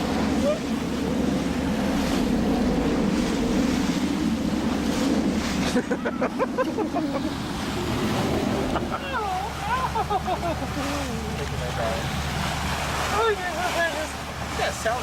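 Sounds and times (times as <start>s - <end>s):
steady low hum: 0.0s - 15.0s
water rushing past boat: 0.0s - 15.0s
wind buffeting microphone: 0.0s - 15.0s.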